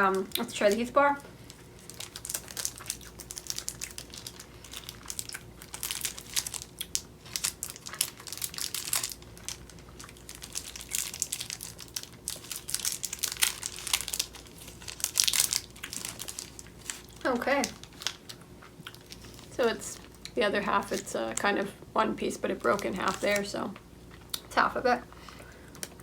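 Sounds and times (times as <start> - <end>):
candy wrapper crinkling and tearing: 0.3 - 21.4, 22.4 - 24.4.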